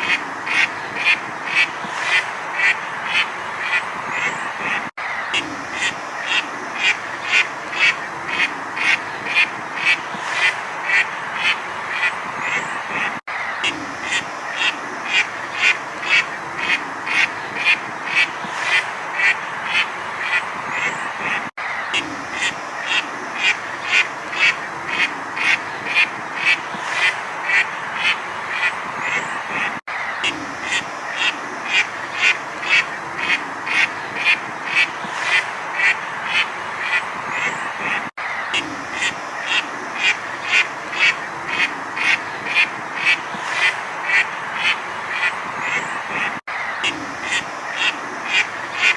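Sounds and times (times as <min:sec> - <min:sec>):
duck quacking: 0:00.0 - 0:48.9.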